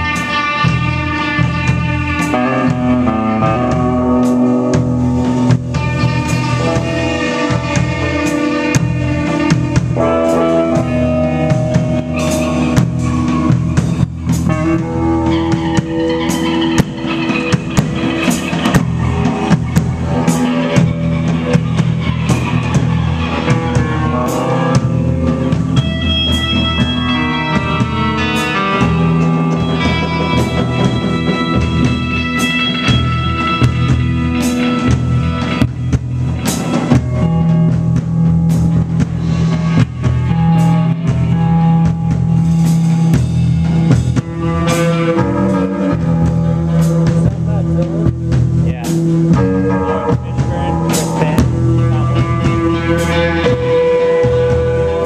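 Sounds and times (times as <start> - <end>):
drum kit steady beat: 0.0 - 55.0
electric guitar sustained notes: 0.0 - 55.0.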